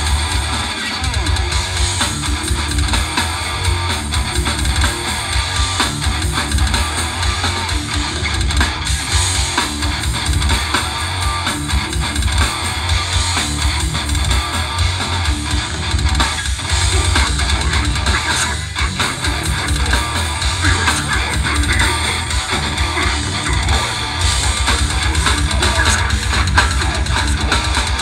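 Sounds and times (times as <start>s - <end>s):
bass guitar: 0.0s - 28.0s
distorted electric guitar: 0.0s - 28.0s
drum kit: 0.0s - 28.0s.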